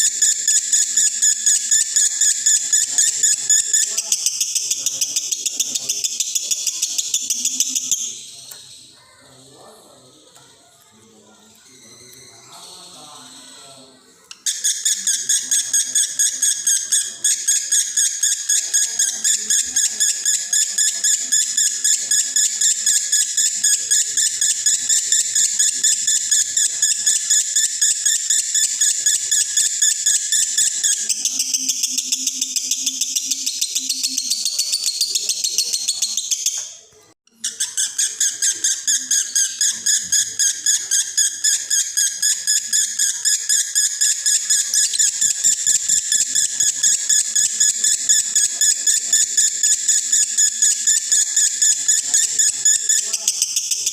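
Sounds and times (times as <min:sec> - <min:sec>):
lovebird singing chatter: 0:00.0 - 0:53.9.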